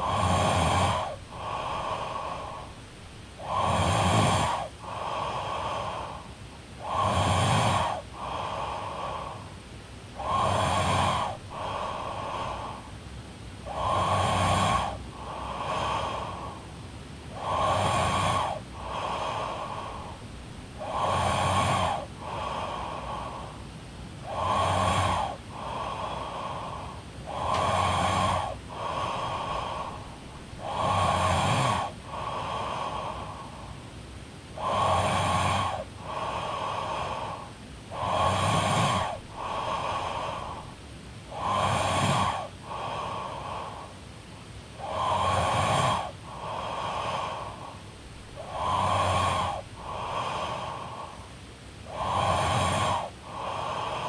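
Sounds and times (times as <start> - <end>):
woman snoring: 0.0 - 9.5, 10.2 - 12.9, 13.6 - 16.6, 17.3 - 23.6, 24.2 - 33.7, 34.5 - 44.0, 44.8 - 54.0.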